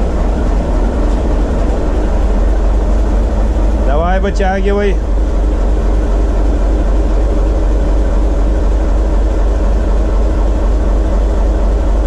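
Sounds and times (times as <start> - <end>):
diesel locomotive engine droning: 0.0 - 12.0.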